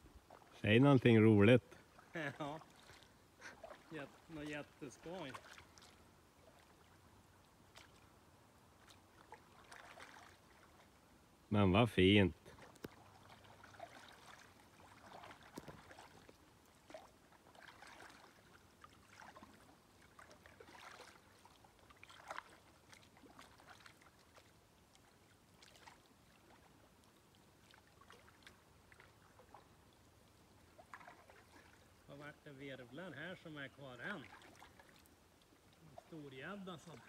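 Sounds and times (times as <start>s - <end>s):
kayak paddle splashing water: 0.0s - 11.2s, 12.4s - 37.0s.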